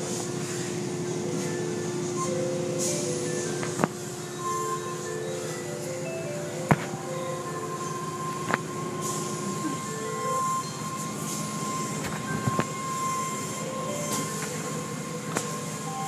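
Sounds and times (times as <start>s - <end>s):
high whine: 0.0s - 16.0s.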